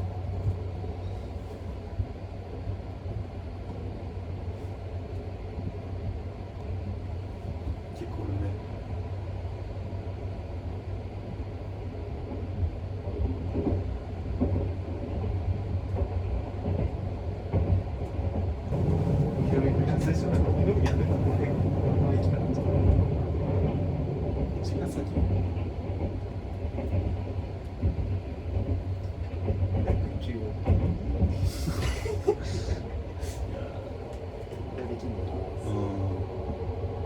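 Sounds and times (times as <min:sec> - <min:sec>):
train low rumble from inside: 0:00.0 - 0:37.0.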